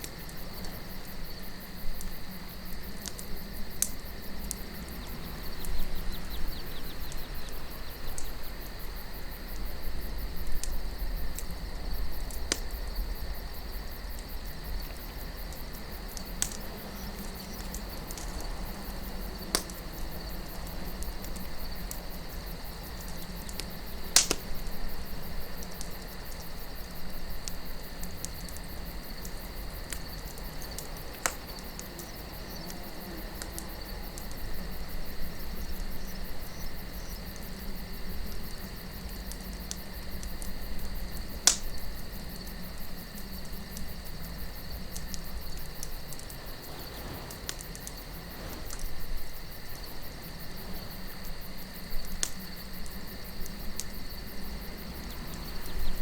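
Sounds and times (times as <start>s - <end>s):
campfire crackling: 0.0s - 56.0s
crickets chirring: 0.0s - 56.0s
low steady wind: 0.0s - 56.0s
sharp pops of fire: 0.0s - 56.0s.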